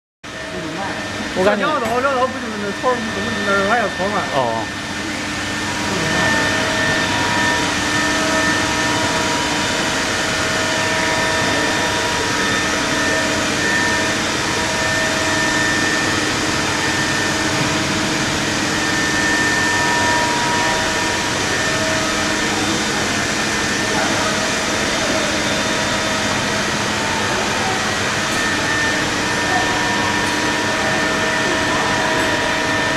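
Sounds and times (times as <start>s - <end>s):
whining motor tones: 0.3s - 32.9s.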